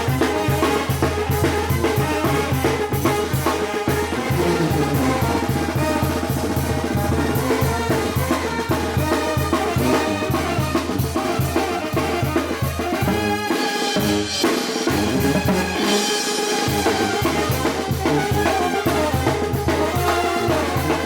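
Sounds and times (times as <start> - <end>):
steady drum beat: 0.0 - 21.0
trumpets and brass melody: 0.0 - 21.0
tuba bass line: 0.0 - 21.0.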